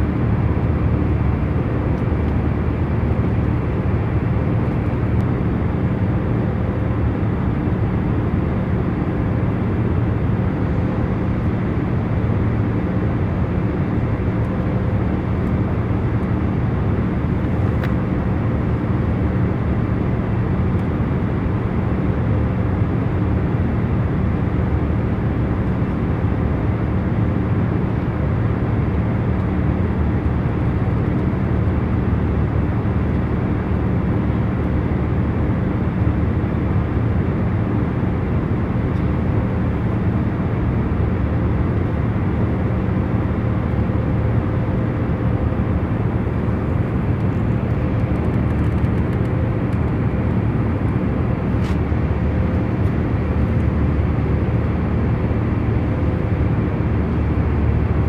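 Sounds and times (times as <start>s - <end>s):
engine and airflow rush: 0.0s - 58.0s.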